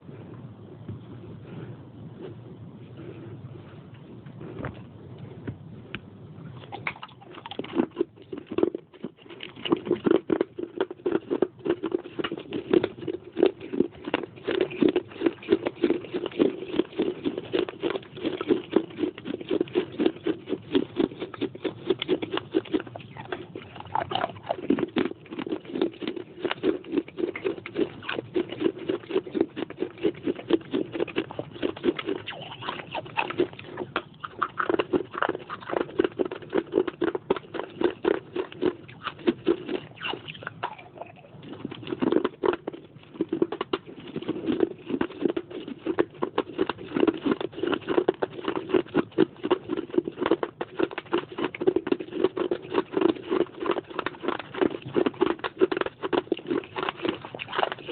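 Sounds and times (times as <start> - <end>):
person chewing crunchy clay: 1.5 - 57.9.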